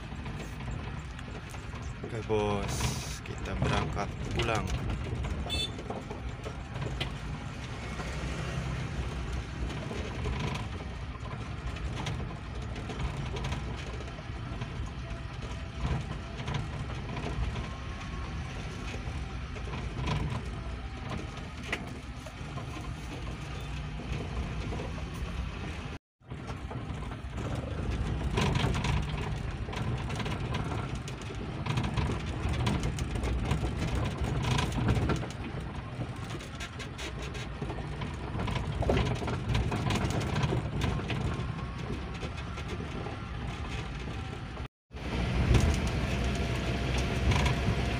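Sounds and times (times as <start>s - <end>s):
body and load rattling: 0.0s - 47.9s
engine low rumble: 0.0s - 47.9s.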